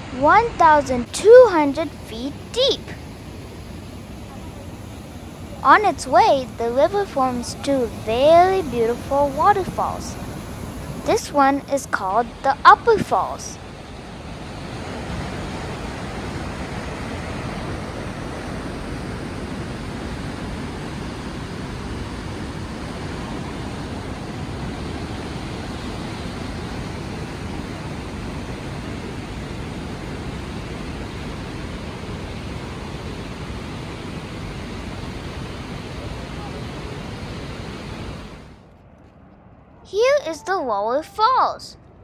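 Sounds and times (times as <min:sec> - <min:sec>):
waterfall roaring: 0:00.0 - 0:38.6.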